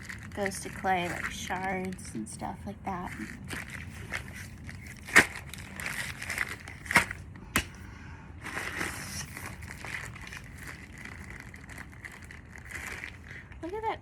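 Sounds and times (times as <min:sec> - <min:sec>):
plastic bag crinkling: 0:00.0 - 0:07.8, 0:08.4 - 0:14.0.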